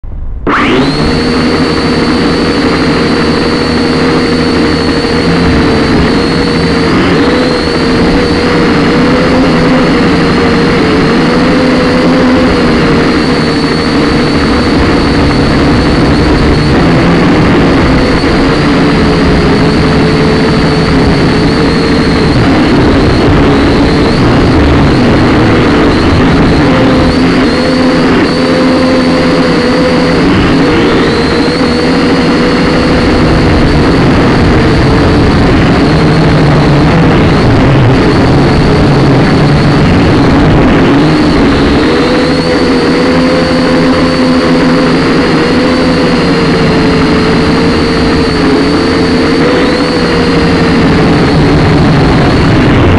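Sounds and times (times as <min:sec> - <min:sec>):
toy drone motors whining: 0:00.5 - 0:52.5.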